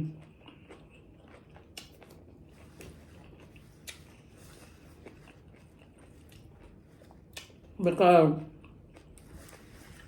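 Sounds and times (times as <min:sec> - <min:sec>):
chewing food: 0:00.0 - 0:10.0.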